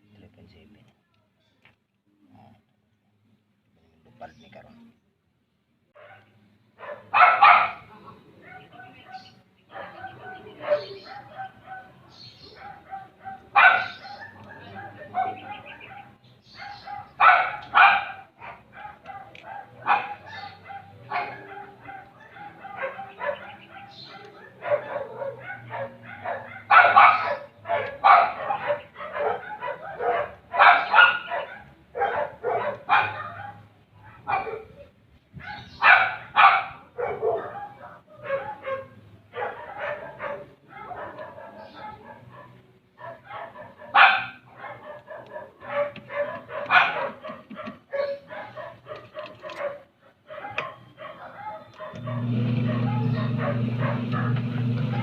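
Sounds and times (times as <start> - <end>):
dog barking: 6.0 - 55.0.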